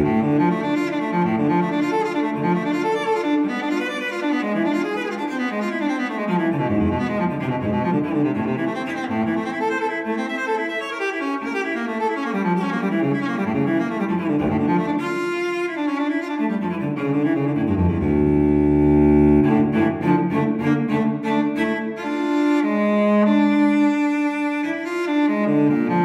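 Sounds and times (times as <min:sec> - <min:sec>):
solo cello melody: 0:00.0 - 0:26.0.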